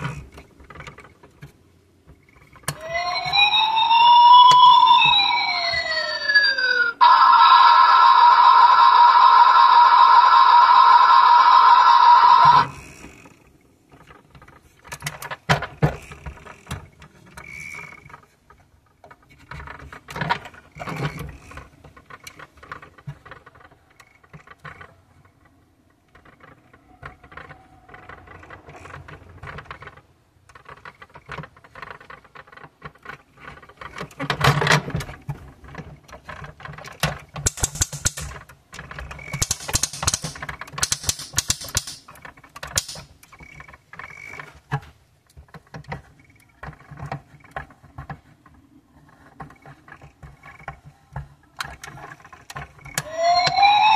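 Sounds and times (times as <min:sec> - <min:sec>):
toy crane plastic clicks and rattles: 0:00.0 - 0:53.9.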